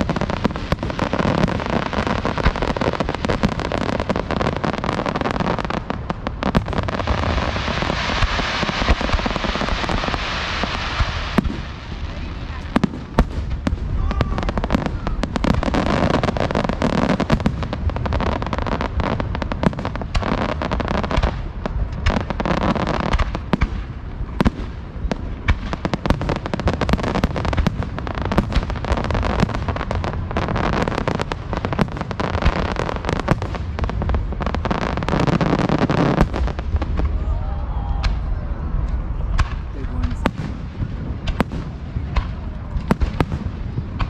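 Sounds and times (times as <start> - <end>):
deep fireworks booms: 0.0 - 44.0
fireworks crackling: 0.0 - 44.0.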